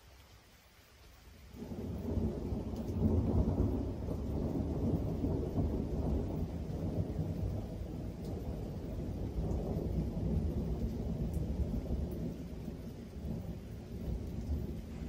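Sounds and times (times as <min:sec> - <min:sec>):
thunder rumbling: 0:01.6 - 0:15.0.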